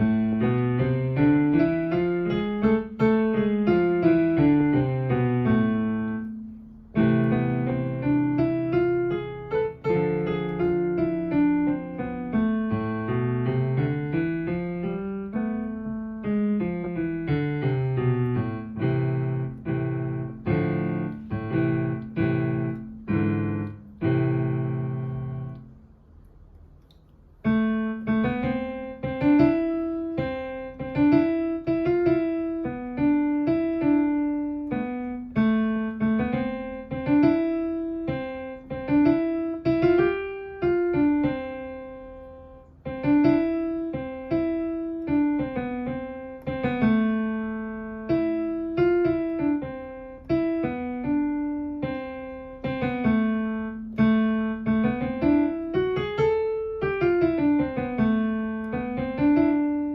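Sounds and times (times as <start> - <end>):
piano playing scales: 0.0 - 26.2, 26.8 - 59.9.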